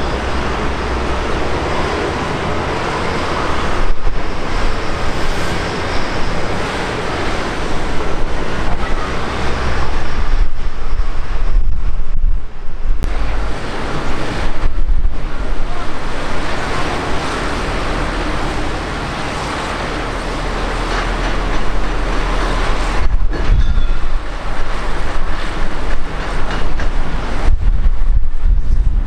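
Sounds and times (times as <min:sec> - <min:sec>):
jet engines rushing: 0:00.0 - 0:29.0
wind buffeting microphone: 0:00.0 - 0:29.0.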